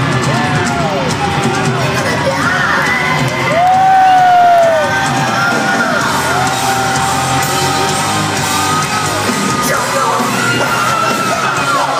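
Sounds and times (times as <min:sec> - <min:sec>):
fans yelling: 0:00.0 - 0:11.9
live rock band playing: 0:00.0 - 0:11.9.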